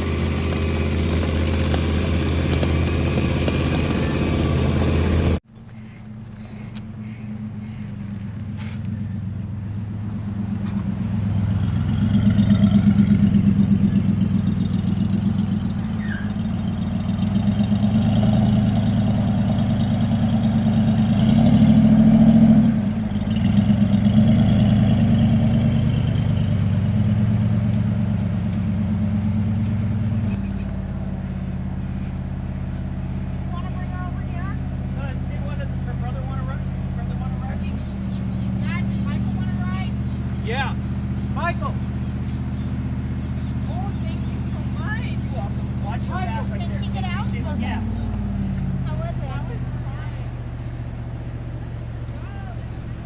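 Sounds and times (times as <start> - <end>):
car engine revving and idling: 0.0 - 53.0.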